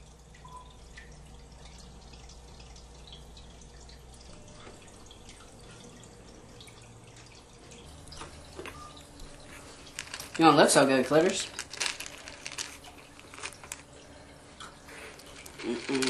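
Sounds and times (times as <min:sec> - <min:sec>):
low room hum: 0:00.0 - 0:16.0
water dripping: 0:00.0 - 0:16.0.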